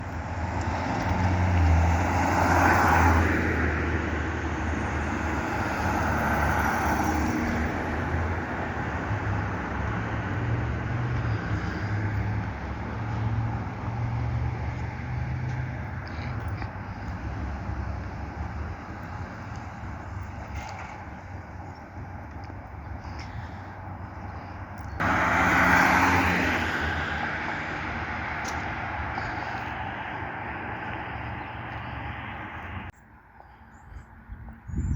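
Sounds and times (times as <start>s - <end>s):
road noise: 0.0s - 34.9s.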